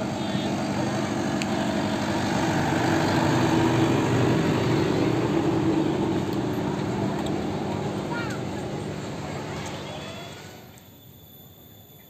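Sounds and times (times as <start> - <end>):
road train engine running: 0.0 - 12.0.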